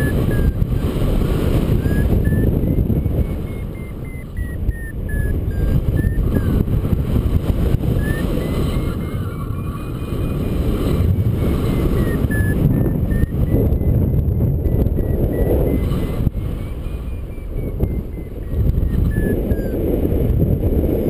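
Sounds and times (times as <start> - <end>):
variometer beeping: 0.0 - 20.0
wind rushing over microphone: 0.0 - 21.0.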